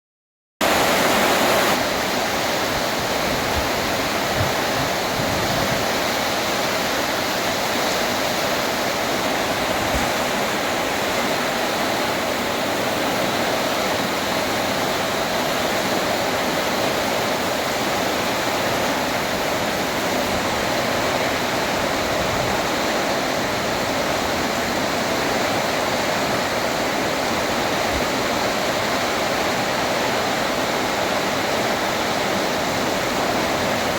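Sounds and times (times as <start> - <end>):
heavy rain pouring: 0.6 - 33.9.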